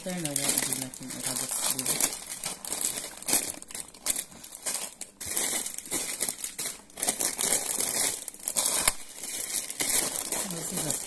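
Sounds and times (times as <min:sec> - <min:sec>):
snack packets crinkling: 0:00.0 - 0:11.0.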